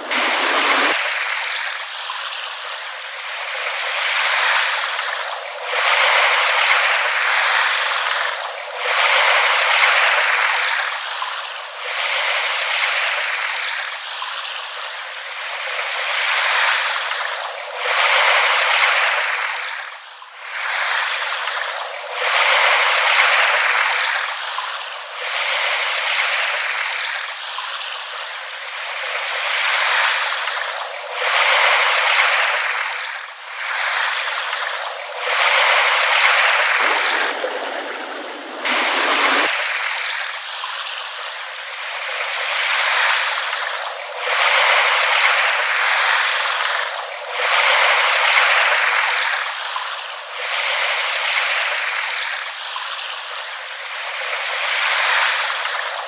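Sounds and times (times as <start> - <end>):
small waves lapping on shore: 0.0 - 56.0.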